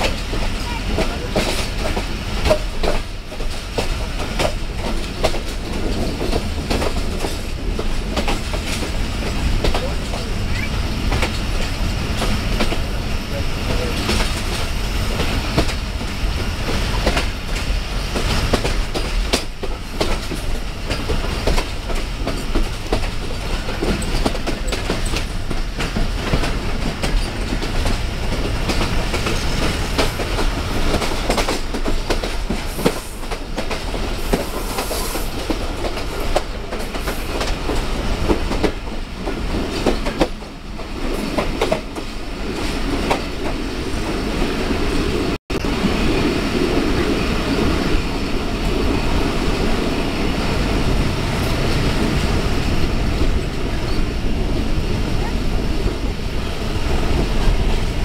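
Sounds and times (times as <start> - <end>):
train coaches rumbling and rattling: 0.0 - 58.0.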